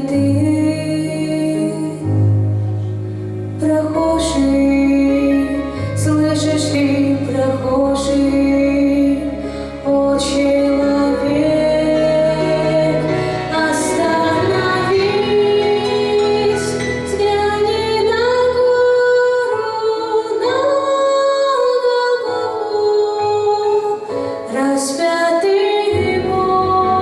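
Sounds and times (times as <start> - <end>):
women singing a hymn: 3.6 - 27.0.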